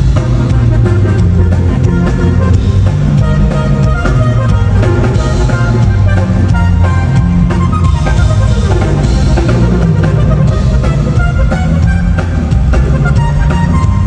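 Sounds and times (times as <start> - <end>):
drum kit: 0.0 - 14.0
live band music: 0.0 - 14.0
sustained bass notes: 0.0 - 14.0.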